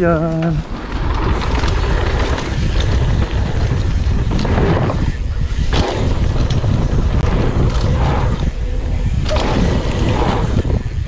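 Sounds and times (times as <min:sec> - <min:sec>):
wind buffeting microphone: 0:00.0 - 0:11.0
bike knocks and rattles: 0:00.7 - 0:11.0.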